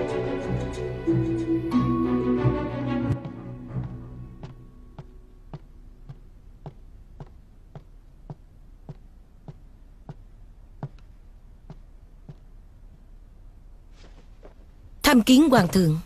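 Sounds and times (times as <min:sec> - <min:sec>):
soft footsteps: 0:03.0 - 0:16.0.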